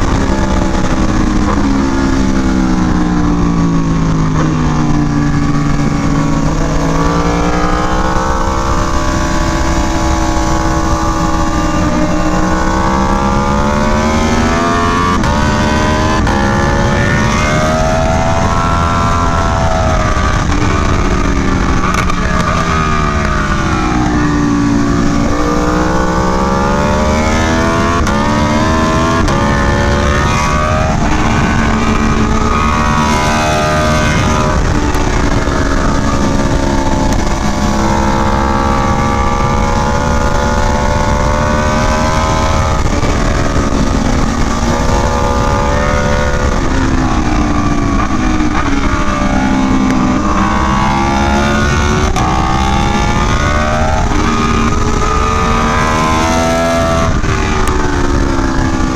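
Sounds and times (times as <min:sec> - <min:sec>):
motorcycle engine revving: 0:00.0 - 0:58.9
wind rushing over microphone: 0:00.0 - 0:58.9.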